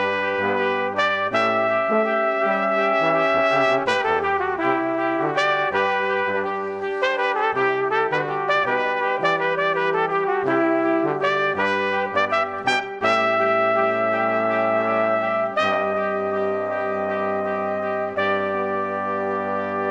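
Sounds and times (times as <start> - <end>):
bass line: 0.0 - 19.5
brass instruments playing chords: 0.0 - 19.9.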